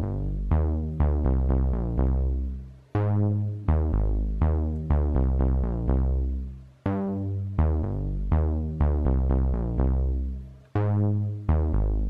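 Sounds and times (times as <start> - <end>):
deep bass: 0.0 - 12.0
electronic synthesizer music: 0.0 - 12.0.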